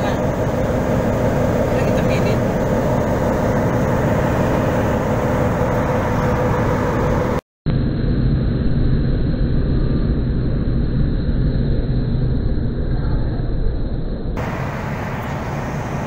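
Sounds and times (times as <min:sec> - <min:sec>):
engine-room machinery noise: 0:00.0 - 0:16.0
low hum: 0:00.0 - 0:16.0.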